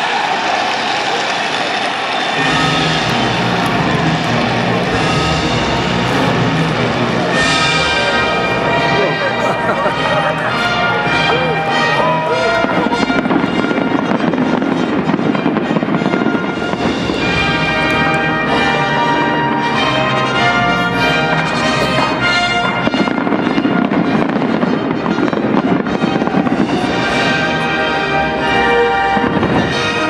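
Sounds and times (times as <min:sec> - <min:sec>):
fireworks bursting and crackling: 0:00.2 - 0:30.0
orchestral music: 0:02.4 - 0:30.0.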